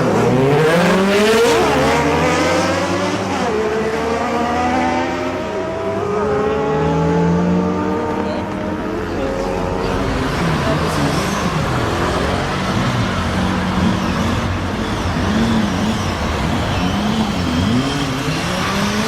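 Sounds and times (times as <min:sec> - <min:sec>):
motorcycle engines revving: 0:00.0 - 0:19.0
road noise: 0:00.0 - 0:19.0.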